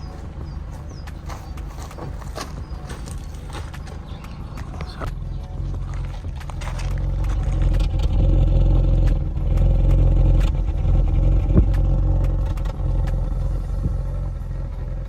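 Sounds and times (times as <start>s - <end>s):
car engine running: 0.0s - 15.0s
engine ticking: 0.0s - 15.0s.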